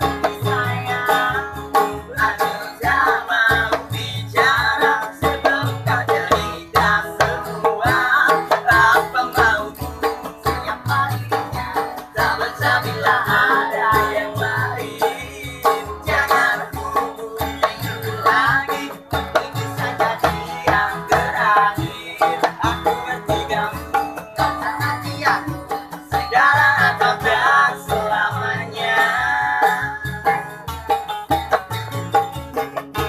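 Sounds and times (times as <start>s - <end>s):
men singing together: 0.0s - 31.1s
acoustic guitars strummed: 0.0s - 33.0s
hand drum steady low beat: 0.0s - 33.0s.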